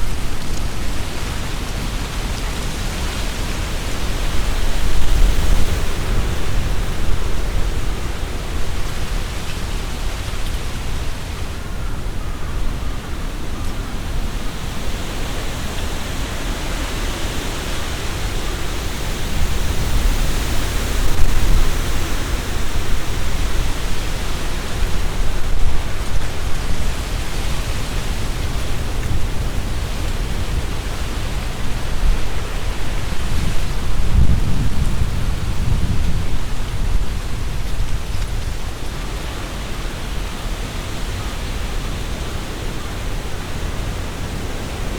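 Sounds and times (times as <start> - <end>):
wind buffeting microphone: 0.0 - 44.9
wind rustling leaves: 0.0 - 44.9.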